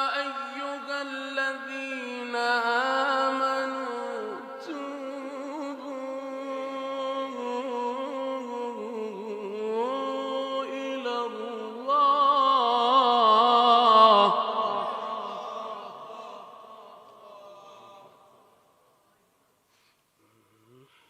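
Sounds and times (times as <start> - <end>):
man reciting melodically: 0.0 - 18.9.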